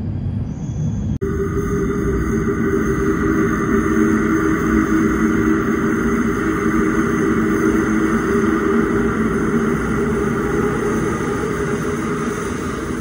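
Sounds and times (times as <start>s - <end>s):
underground train rumbling in tunnel: 0.0s - 13.0s.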